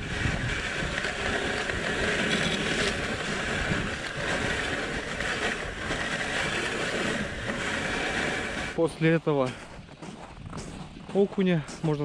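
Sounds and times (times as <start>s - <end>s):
wind on microphone: 0.0s - 8.8s, 10.2s - 11.3s
sled scraping over snow: 0.0s - 12.0s.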